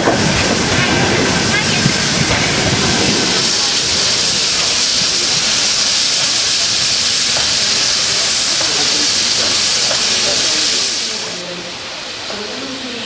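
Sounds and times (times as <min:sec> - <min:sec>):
passing train carriages rumble: 0:00.0 - 0:13.0
steam venting hiss: 0:00.0 - 0:13.0.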